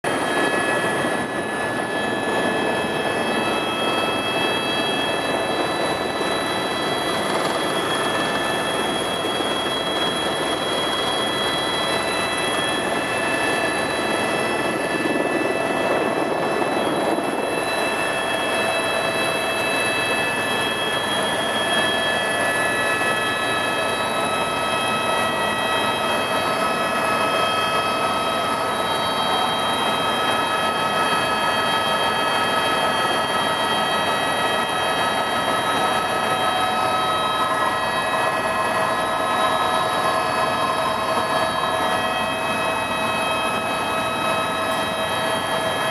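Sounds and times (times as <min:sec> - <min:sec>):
helicopter cabin rushing noise: 0:00.0 - 0:45.9
turbine whines: 0:00.1 - 0:45.9.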